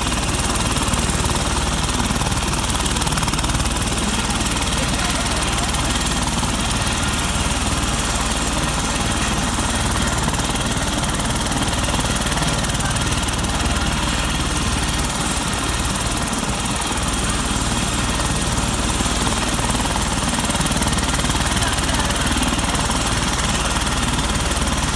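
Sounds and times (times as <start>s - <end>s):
helicopter engine and rotor: 0.0s - 24.9s.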